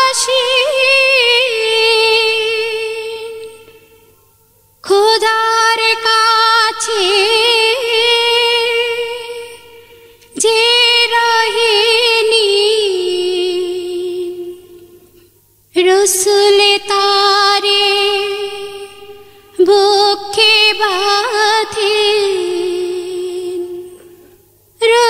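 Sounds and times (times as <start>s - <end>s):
woman singing wordless notes: 0.0s - 4.1s, 4.8s - 25.0s.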